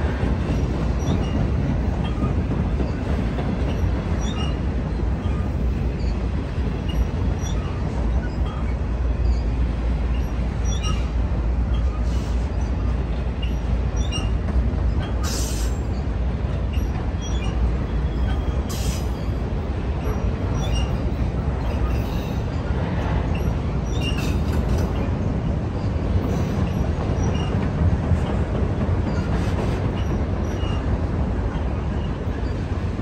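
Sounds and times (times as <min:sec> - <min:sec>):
freight cars rumbling on rails: 0:00.0 - 0:33.0.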